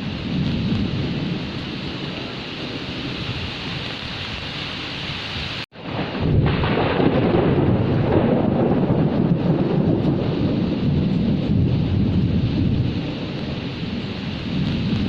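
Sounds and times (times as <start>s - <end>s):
rolling thunder: 0.0s - 3.8s, 5.7s - 15.0s
heavy rain: 0.0s - 15.0s.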